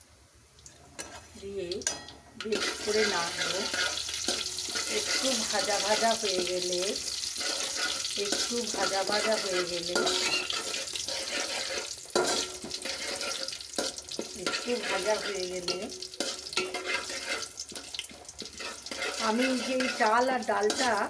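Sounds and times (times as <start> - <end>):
spices sizzling in hot oil: 0.5 - 21.0.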